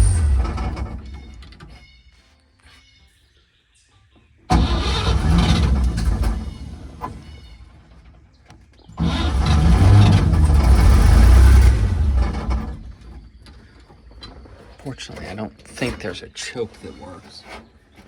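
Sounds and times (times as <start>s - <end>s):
truck engine starting and running: 0.0s - 1.8s, 4.5s - 18.0s.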